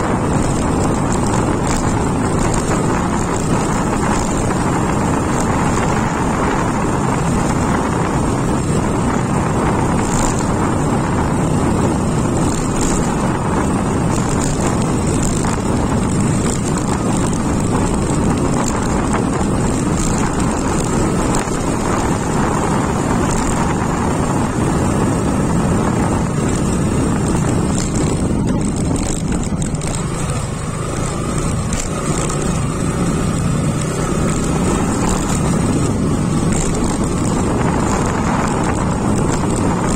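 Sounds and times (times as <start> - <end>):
motorcycle running: 0.0 - 39.9
wind noise on microphone: 0.0 - 39.9.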